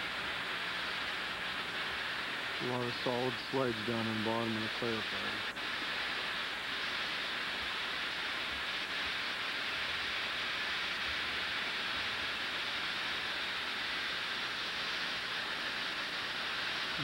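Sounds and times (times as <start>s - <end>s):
water rushing from a hose: 0.0s - 17.0s.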